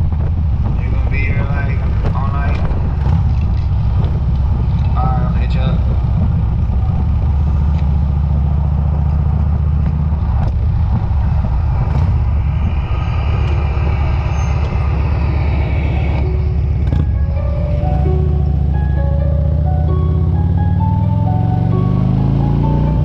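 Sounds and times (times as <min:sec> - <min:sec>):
wind noise: 0:00.0 - 0:19.1
motorcycle engine rumbling: 0:00.0 - 0:23.0.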